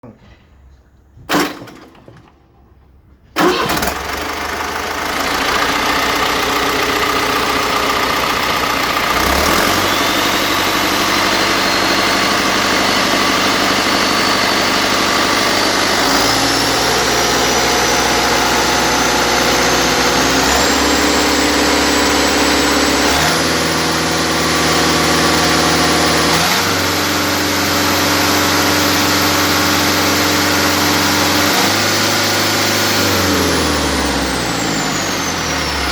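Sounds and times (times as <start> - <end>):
diesel engine starting and running: 1.2 - 35.9
high engine whine: 3.4 - 35.9.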